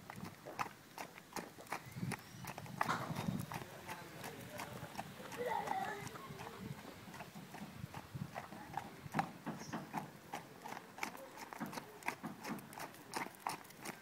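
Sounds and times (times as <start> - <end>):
hoofbeats on packed dirt: 0.0 - 14.0.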